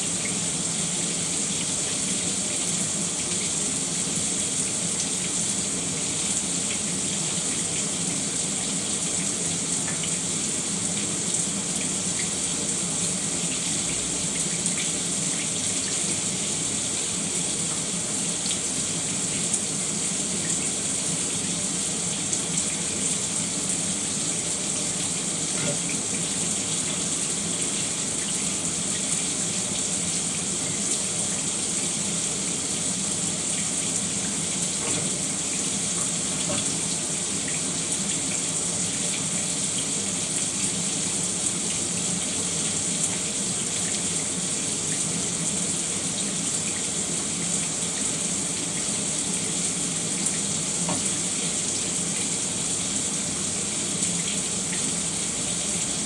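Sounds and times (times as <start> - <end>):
shower running: 0.0 - 56.0.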